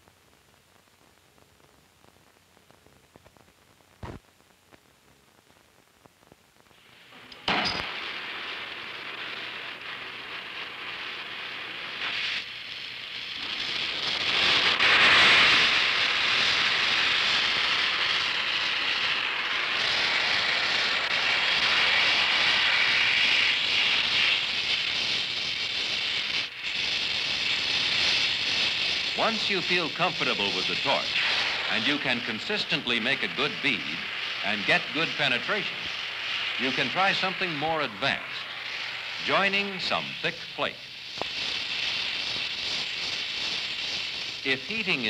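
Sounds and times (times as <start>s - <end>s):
welding torch flame hissing: 0.0s - 45.0s.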